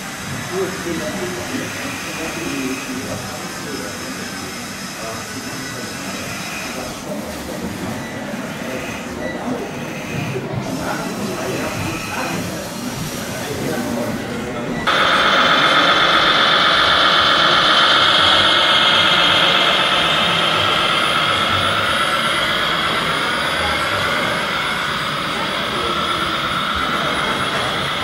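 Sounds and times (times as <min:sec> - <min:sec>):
toy truck electric drive whine: 0:00.0 - 0:28.0.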